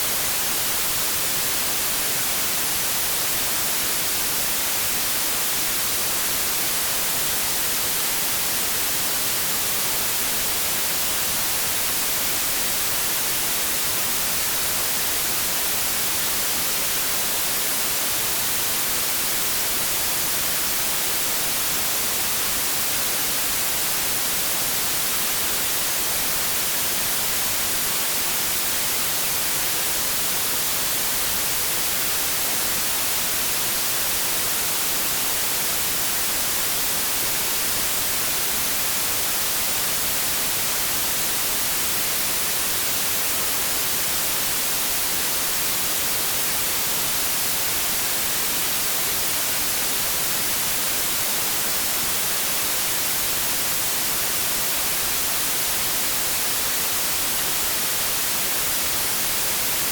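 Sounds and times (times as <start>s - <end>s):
white-noise static hiss: 0.0s - 59.9s.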